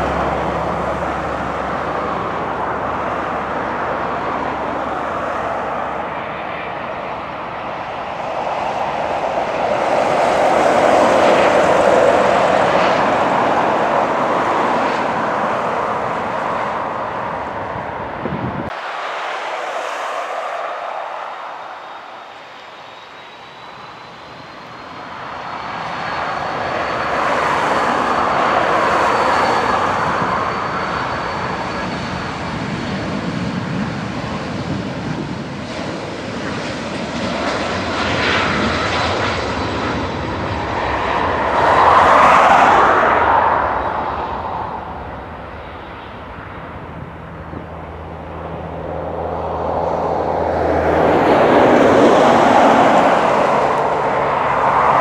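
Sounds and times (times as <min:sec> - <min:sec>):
jet engines on takeoff roll: 0:00.0 - 0:55.0
thin high engine whine: 0:00.0 - 0:55.0.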